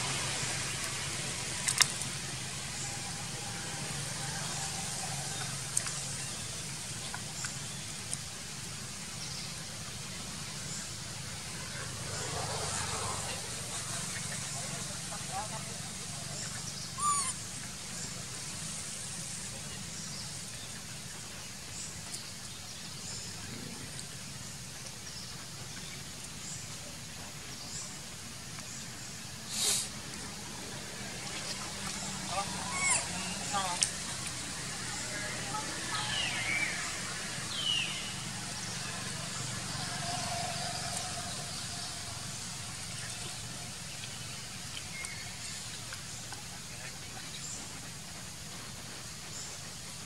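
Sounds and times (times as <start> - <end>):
even hiss: 0.0 - 50.0
outdoor background noise: 0.0 - 50.0.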